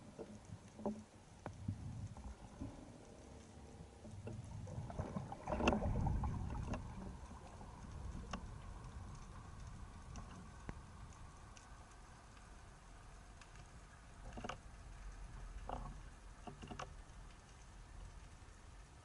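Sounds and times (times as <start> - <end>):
underwater rumble of water: 0.0 - 19.0.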